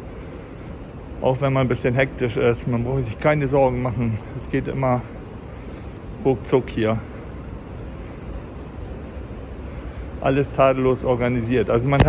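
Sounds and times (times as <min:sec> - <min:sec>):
terminal hall hum and hiss: 0:00.0 - 0:12.0.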